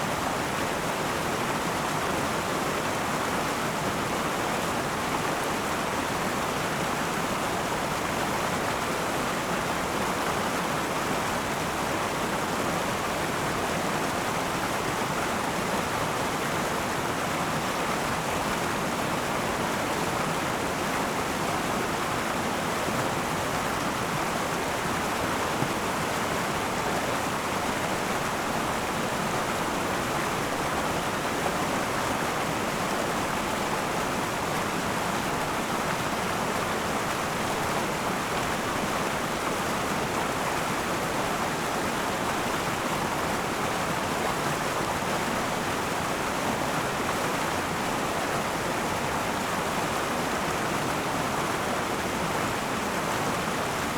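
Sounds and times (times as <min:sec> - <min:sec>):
river water rushing over rocks: 0:00.0 - 0:53.9.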